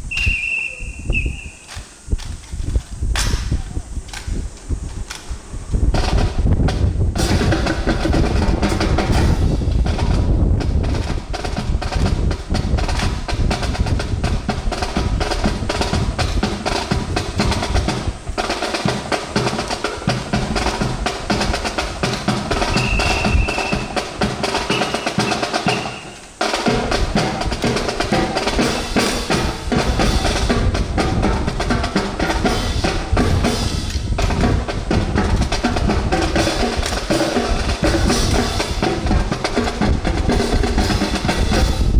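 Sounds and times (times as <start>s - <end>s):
snare drum rolls: 0.0s - 4.4s, 5.8s - 41.9s
bass drum beats: 6.0s - 41.9s.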